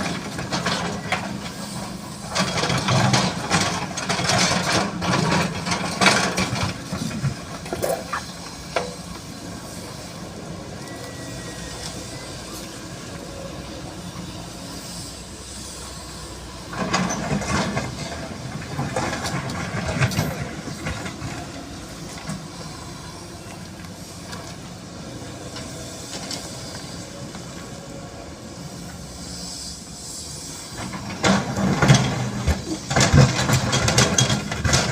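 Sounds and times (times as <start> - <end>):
excavator diesel engine running: 0.0 - 34.9
hydraulic hissing and scraping: 0.0 - 34.9.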